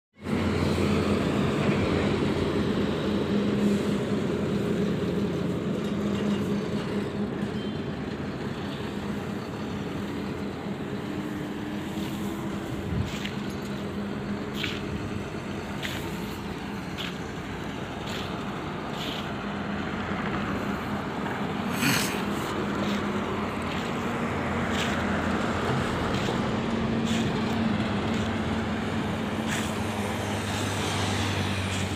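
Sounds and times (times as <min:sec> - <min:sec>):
road traffic noise: 0:00.2 - 0:31.9
truck diesel engine droning: 0:00.2 - 0:31.9.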